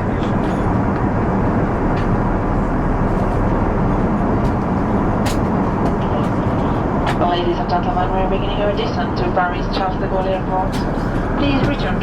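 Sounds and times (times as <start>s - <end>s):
aircraft cabin engine and airflow noise: 0.0s - 12.0s.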